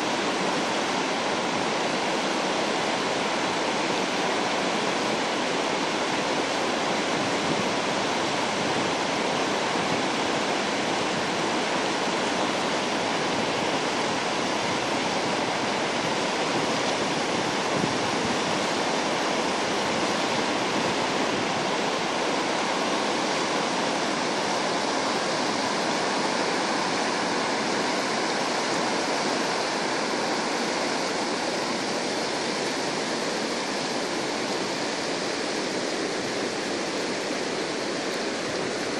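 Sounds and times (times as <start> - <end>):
river rapids rushing over boulders: 0.0 - 38.9.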